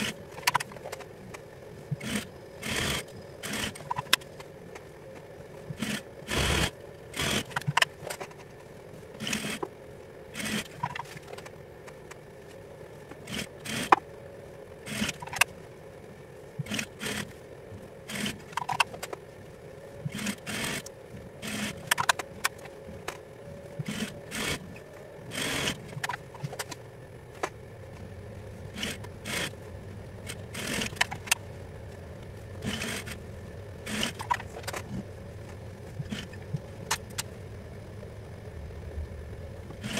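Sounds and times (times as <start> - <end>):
sewing machine motor hum: 0.0 - 1.0, 1.9 - 4.5, 5.5 - 8.3, 9.1 - 9.7, 10.3 - 11.4, 13.1 - 14.1, 14.8 - 15.5, 16.5 - 17.4, 18.0 - 19.2, 19.9 - 39.9.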